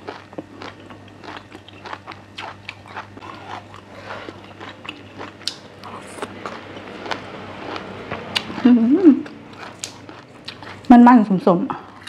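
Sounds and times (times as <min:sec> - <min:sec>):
crunchy chewing: 0:00.0 - 0:10.9.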